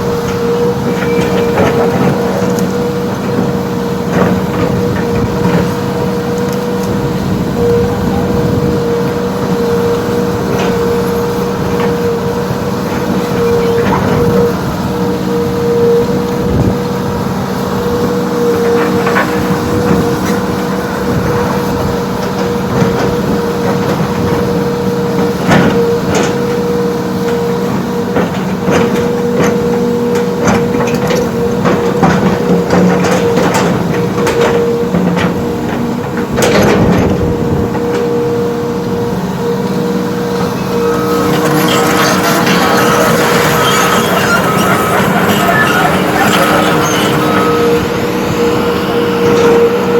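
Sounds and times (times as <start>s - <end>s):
heavy earthmoving machine running: 0.0s - 49.9s
steady machine whine: 0.0s - 49.9s.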